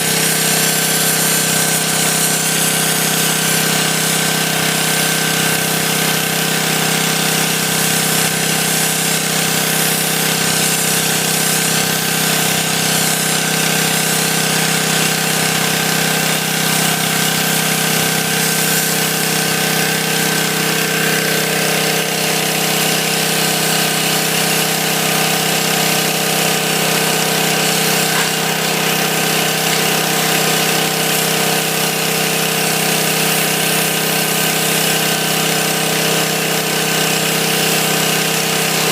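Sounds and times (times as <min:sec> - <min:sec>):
pressure washer motor drone: 0:00.0 - 0:38.9
sandblasting spray hiss: 0:00.0 - 0:38.9.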